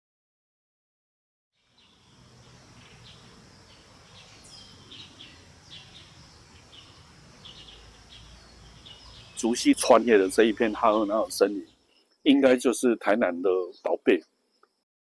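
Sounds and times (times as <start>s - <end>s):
faint high hiss: 1.6s - 14.8s
small birds chirping: 1.6s - 14.9s.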